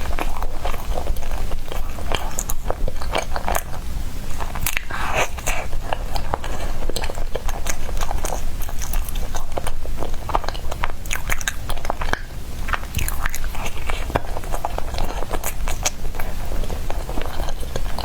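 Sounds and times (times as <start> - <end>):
chewing mouth clicks and smacks: 0.0 - 18.0.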